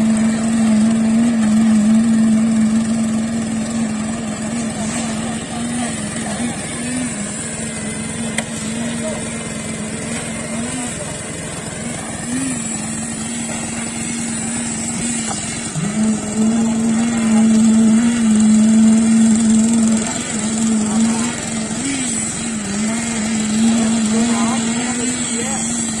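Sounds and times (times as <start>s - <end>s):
concrete vibrator engine running: 0.0s - 26.0s.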